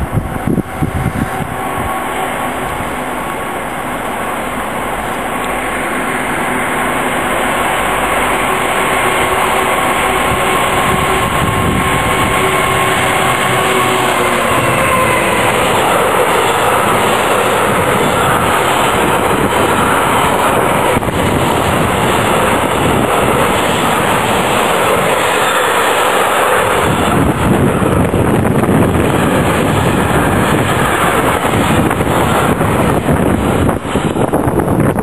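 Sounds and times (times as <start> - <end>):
freight train passing at speed: 0.0 - 35.0
wheels rumbling on rail: 0.0 - 35.0.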